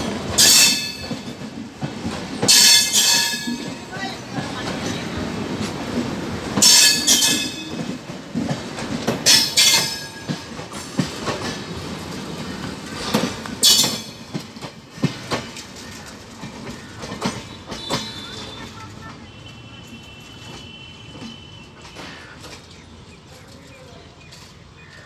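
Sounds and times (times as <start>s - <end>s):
wheels clacking over rail joints: 0.0s - 25.0s.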